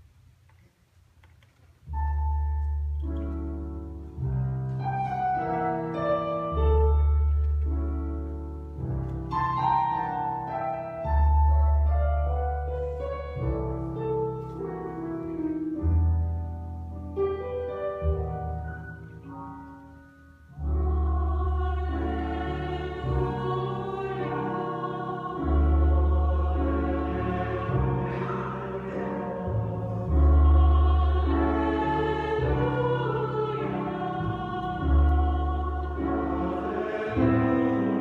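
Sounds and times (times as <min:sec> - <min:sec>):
piano melody with bass notes: 0:01.8 - 0:38.0.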